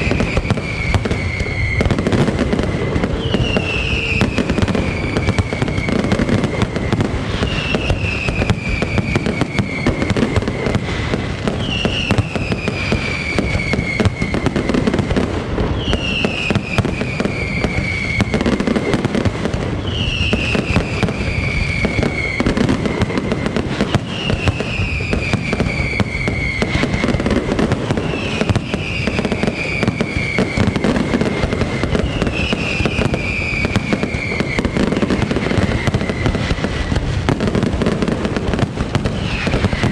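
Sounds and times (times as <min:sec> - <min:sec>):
falling firework whistle: 0:00.0 - 0:39.9
fireworks crackling: 0:00.0 - 0:39.9.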